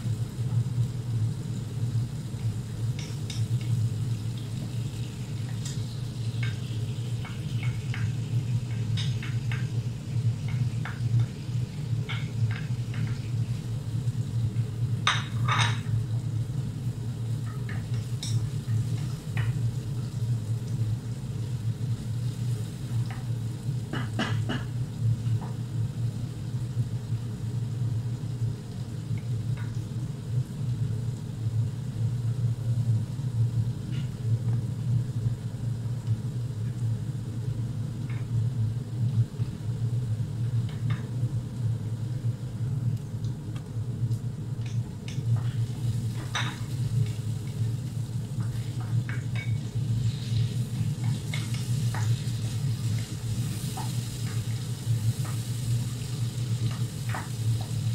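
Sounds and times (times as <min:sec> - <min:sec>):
onion and garlic sizzling in a pot: 0:00.0 - 0:57.9
steady low hum: 0:00.0 - 0:57.9.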